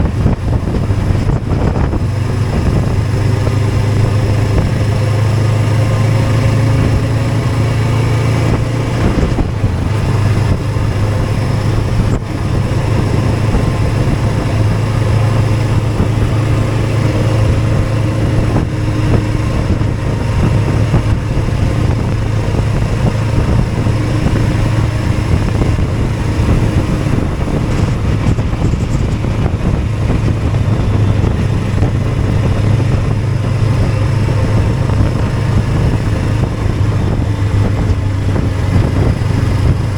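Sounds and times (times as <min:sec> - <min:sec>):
broad rushing noise: 0:00.0 - 0:39.9
motorcycle engine drone: 0:00.0 - 0:39.9.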